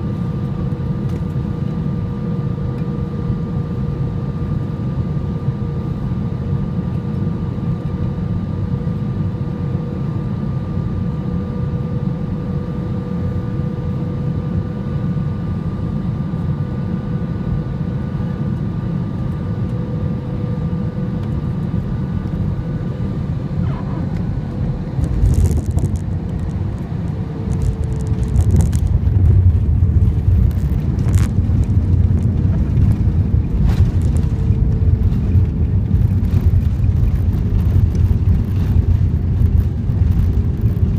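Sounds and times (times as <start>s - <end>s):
airliner cabin engine rumble: 0.0s - 40.9s
steady high whine: 0.0s - 40.9s.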